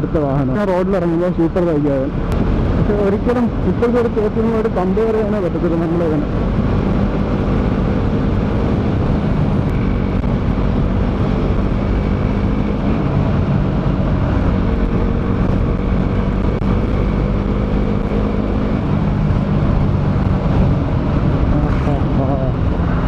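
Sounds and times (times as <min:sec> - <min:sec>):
motorcycle engine running: 0:00.0 - 0:23.0
wind rushing: 0:02.1 - 0:03.9, 0:06.2 - 0:23.0.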